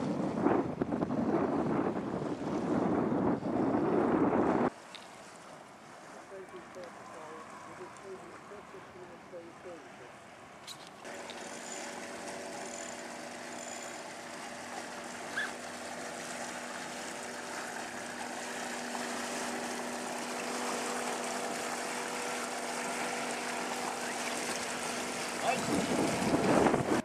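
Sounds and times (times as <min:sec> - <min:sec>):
boat engine running: 0:00.0 - 0:27.0
water washing along hull: 0:00.0 - 0:27.0.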